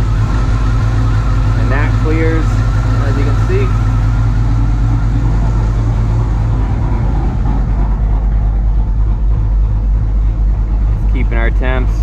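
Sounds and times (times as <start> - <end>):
engine idling: 0.0 - 12.0
radiator fan rushing air: 0.0 - 12.0.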